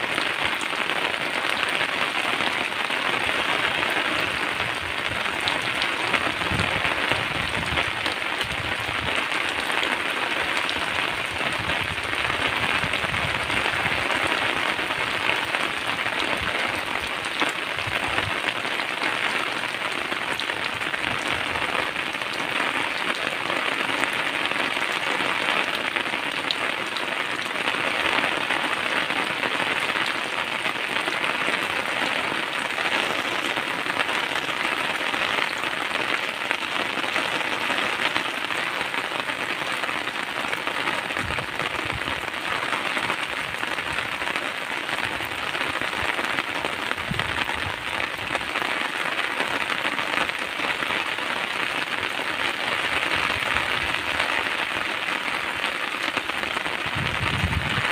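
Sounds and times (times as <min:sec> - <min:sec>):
heavy rain on pavement: 0:00.0 - 0:57.9.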